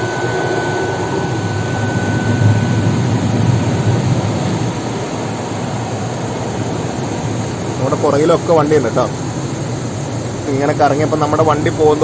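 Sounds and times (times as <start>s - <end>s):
parking sensor high tone: 0.0s - 12.0s.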